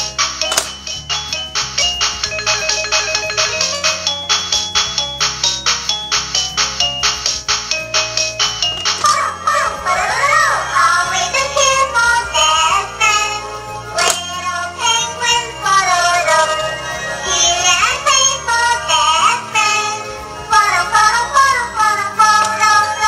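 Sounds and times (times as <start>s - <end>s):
electronic children's song: 0.0s - 23.0s.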